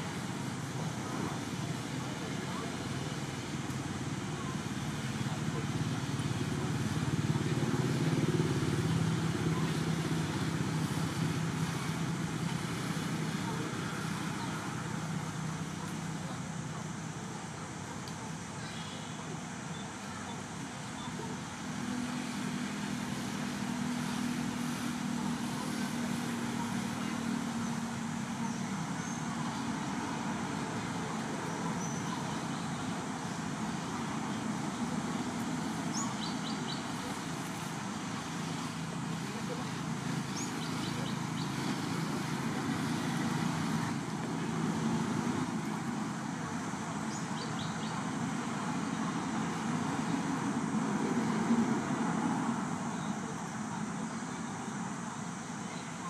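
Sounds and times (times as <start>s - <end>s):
engine hum: 0.0s - 56.0s.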